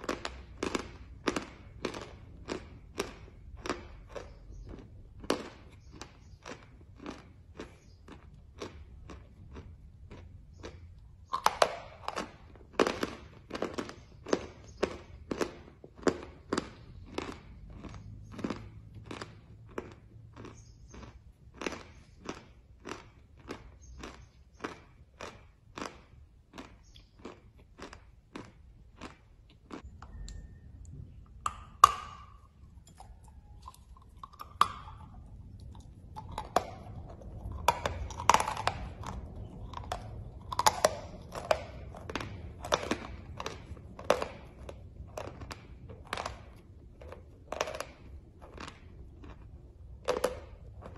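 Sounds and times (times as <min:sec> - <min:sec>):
person crunching chalk: 0:00.0 - 0:30.0, 0:33.6 - 0:50.9.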